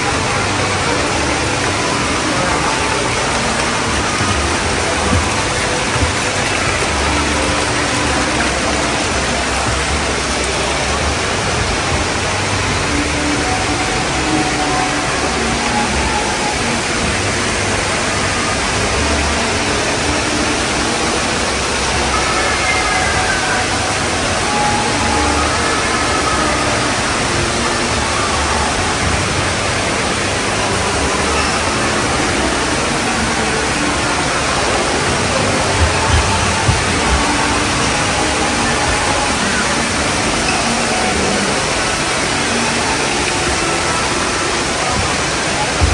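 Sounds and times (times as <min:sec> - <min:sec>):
fountain water splashing: 0:00.0 - 0:45.9
murmur of voices: 0:00.0 - 0:45.9.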